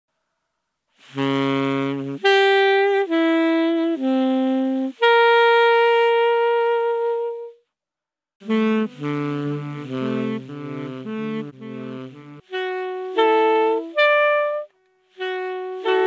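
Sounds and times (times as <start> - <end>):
saxophone phrase: 1.0 - 7.6, 8.4 - 16.0.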